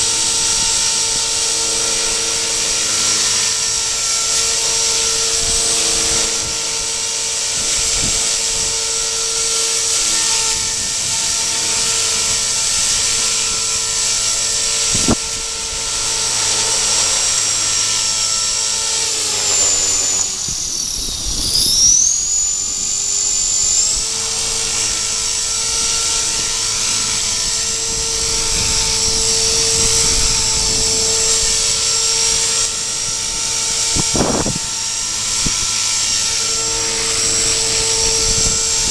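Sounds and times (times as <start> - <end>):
model helicopter whining: 0.0 - 38.9.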